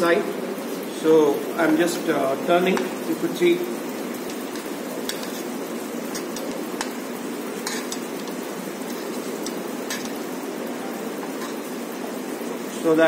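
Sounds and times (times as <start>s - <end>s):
bananas sizzling in a frying pan: 0.0s - 13.0s.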